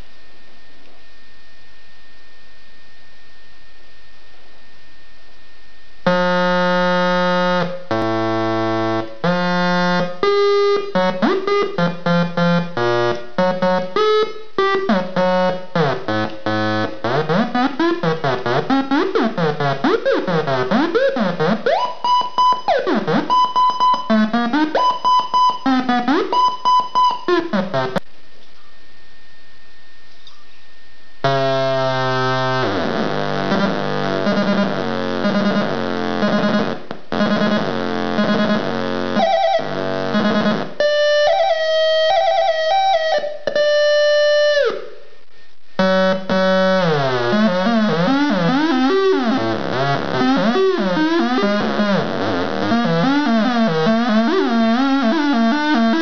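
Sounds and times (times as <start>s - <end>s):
harsh buzzy electronic tones: 4.8s - 28.0s, 29.2s - 56.0s.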